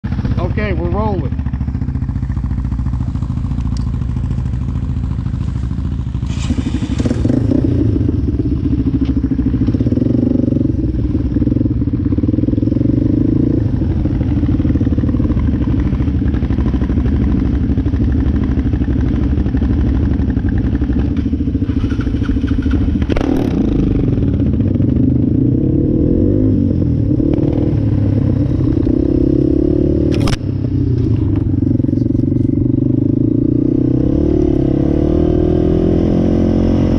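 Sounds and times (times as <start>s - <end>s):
atv engine running: 0.0s - 36.9s.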